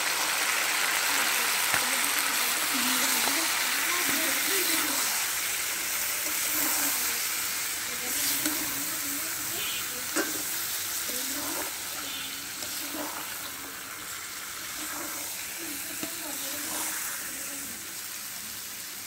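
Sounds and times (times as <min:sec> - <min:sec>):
food sizzling in a metal pan: 0:00.0 - 0:19.0
metal spatula stirring and scraping: 0:02.4 - 0:17.8.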